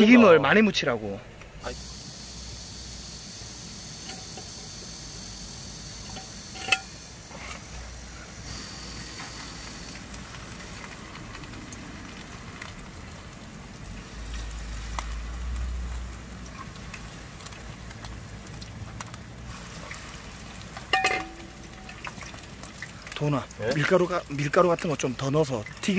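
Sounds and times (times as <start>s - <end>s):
fish frying in hot oil: 1.6s - 25.9s.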